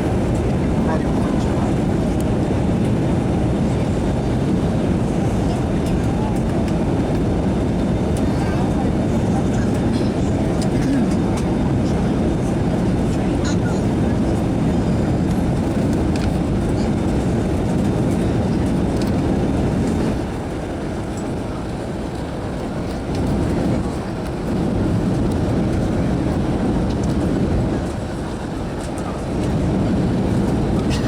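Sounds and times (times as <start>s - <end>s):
airliner engine rumble: 0.0s - 31.0s.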